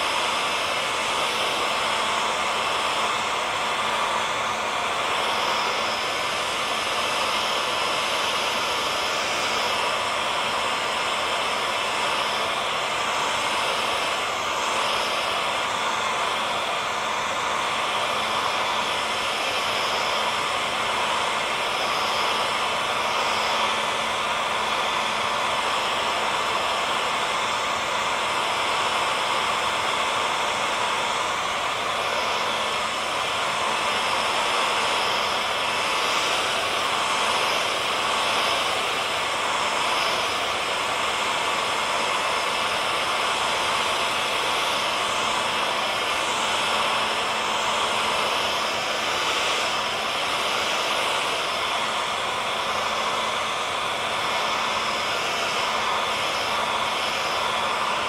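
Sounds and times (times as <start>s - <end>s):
hair dryer blowing air: 0.0s - 58.0s.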